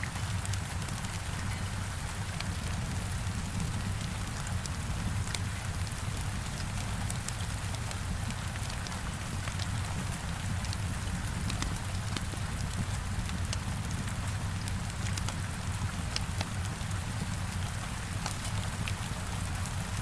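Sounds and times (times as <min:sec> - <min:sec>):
heavy rain on a window: 0:00.0 - 0:20.0.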